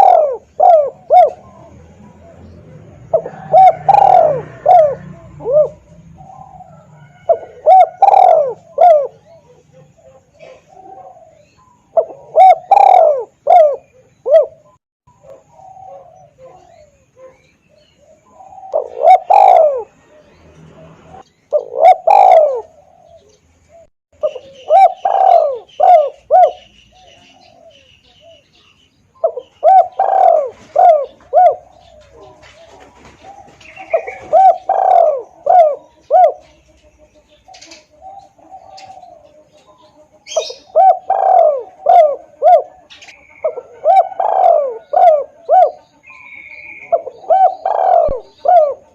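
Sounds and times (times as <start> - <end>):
dove cooing: 0.0 - 28.6, 29.2 - 48.9.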